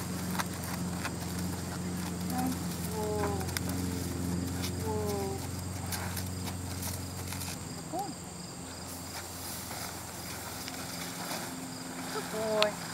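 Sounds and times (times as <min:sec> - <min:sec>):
insects droning: 0:00.0 - 0:12.9
low steady hum: 0:00.0 - 0:12.9.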